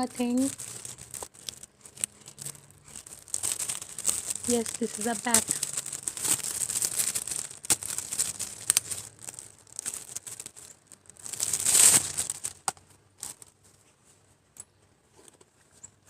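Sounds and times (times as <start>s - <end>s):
packaging crinkling and rustling: 0.0s - 13.8s.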